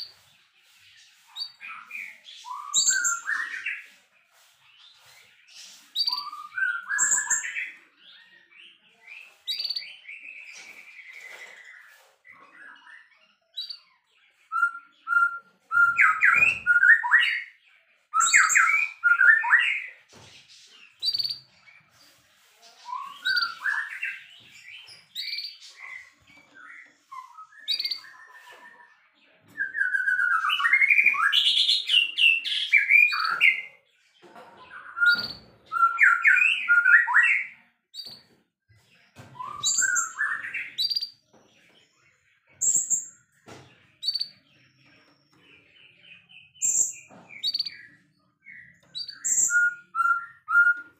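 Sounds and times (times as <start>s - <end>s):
bird singing varied song: 0.0s - 50.9s.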